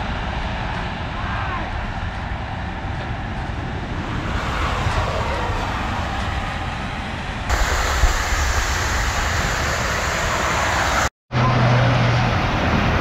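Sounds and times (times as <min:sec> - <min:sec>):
tyres on wet road: 0:00.0 - 0:13.0.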